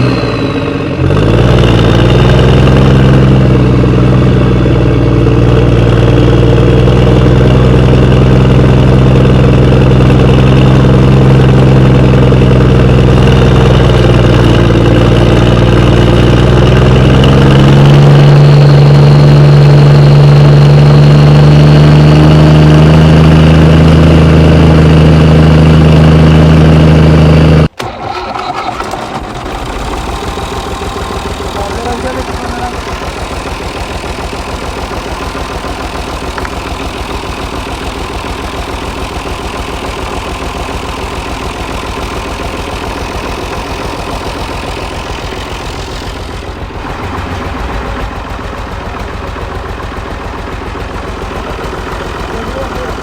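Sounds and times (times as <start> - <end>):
quieter engine running: 0.0 - 53.0
vehicle engine running loudly: 0.0 - 53.0.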